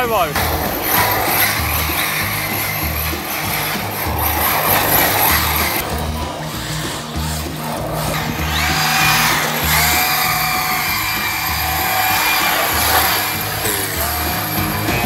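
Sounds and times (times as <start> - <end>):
background music with steady beat: 0.0 - 15.0
electric motor whine: 0.0 - 15.0.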